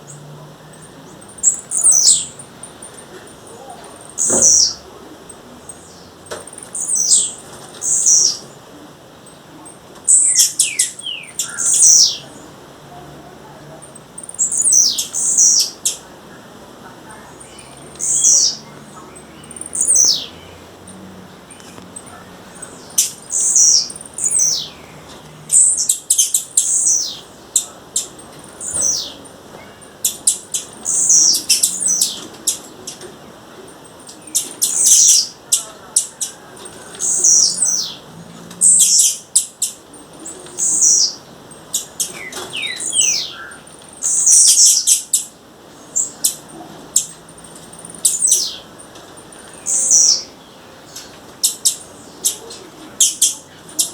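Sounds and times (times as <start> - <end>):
bird calling with high thin notes: 0.0 - 53.9.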